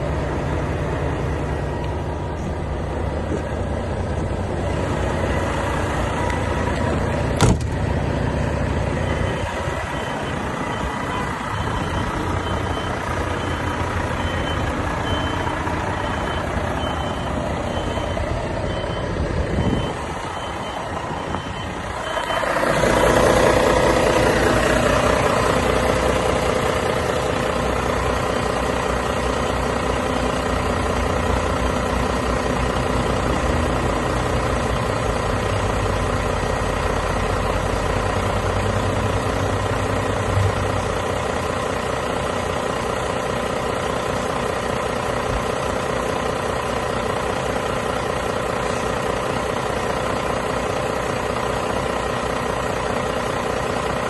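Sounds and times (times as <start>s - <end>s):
diesel truck engine starting and idling: 0.0s - 54.0s.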